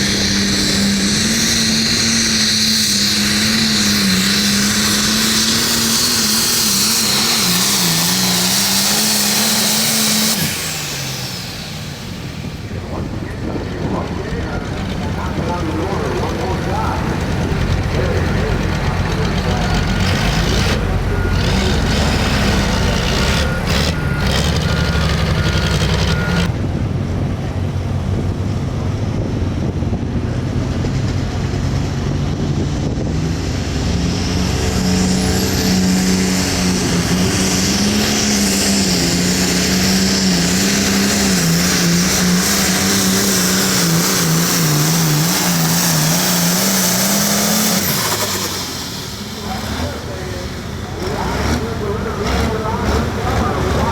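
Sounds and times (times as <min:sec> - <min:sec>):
diesel tractor engine at high revs: 0:00.0 - 0:53.9.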